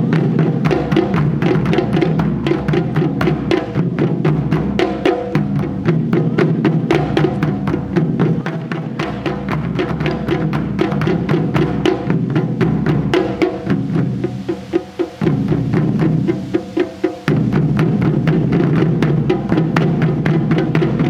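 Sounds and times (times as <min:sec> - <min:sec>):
taiko drum ensemble playing: 0:00.0 - 0:21.0.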